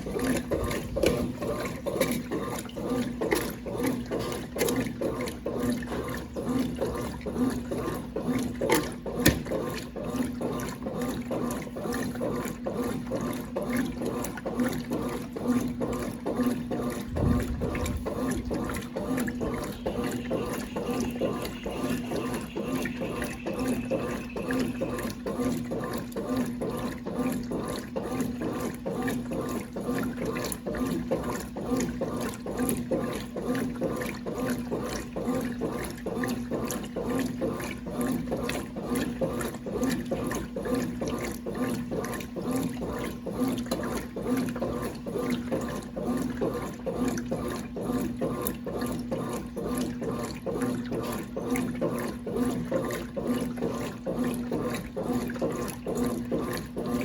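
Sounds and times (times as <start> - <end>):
washing machine running: 0.0 - 57.0
water swishing: 0.0 - 57.0.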